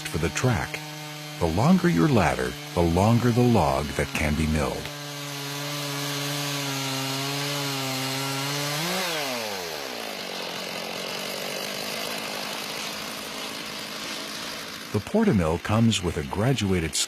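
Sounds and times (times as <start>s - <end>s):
chainsaw cutting wood: 0.0s - 17.0s
chainsaw engine running: 0.0s - 17.0s.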